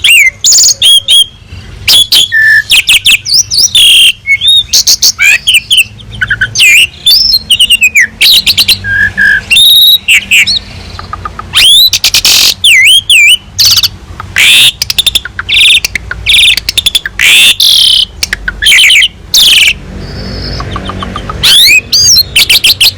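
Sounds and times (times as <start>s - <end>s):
starling singing: 0.0s - 22.9s.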